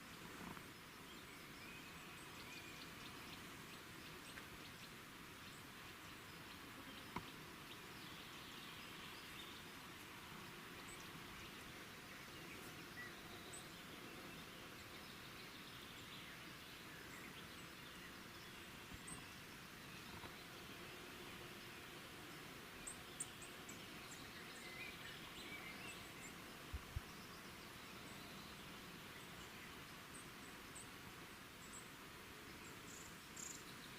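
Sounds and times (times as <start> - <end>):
faint background hiss: 0.0 - 33.9.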